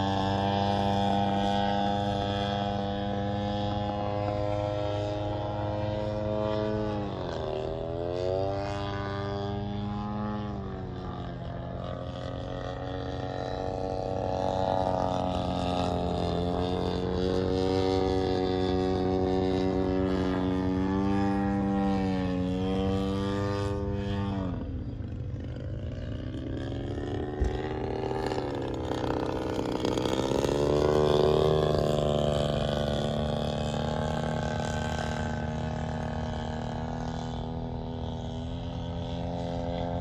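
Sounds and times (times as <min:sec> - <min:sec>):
model airplane engine droning: 0:00.0 - 0:40.0.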